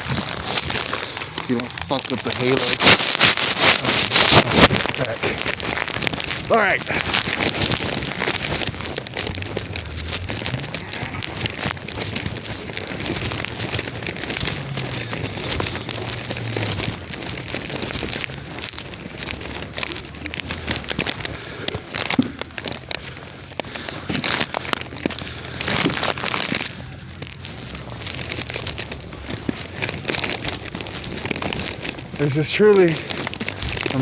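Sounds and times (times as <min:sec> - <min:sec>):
sleet pattering on clothing: 0:00.0 - 0:34.0.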